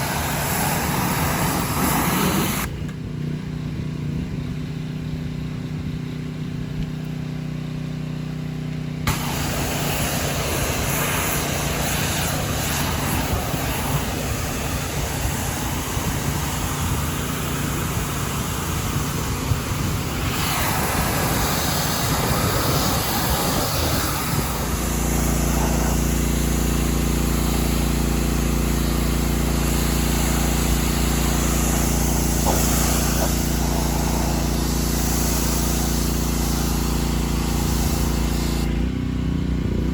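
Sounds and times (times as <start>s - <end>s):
water spray hiss: 0.0s - 2.7s, 9.1s - 38.8s
pressure washer drone: 0.0s - 2.8s, 7.3s - 39.8s.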